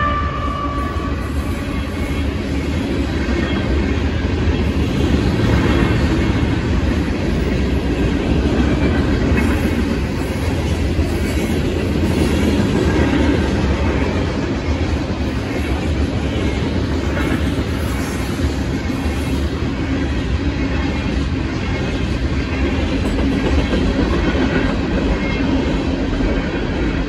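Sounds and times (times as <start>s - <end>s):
freight train rolling: 0.0s - 27.0s
train wheel clatter: 0.8s - 27.0s.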